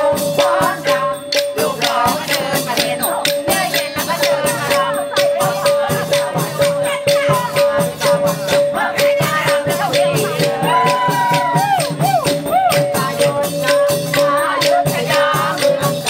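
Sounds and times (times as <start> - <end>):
person singing or calling: 0.0 - 16.0.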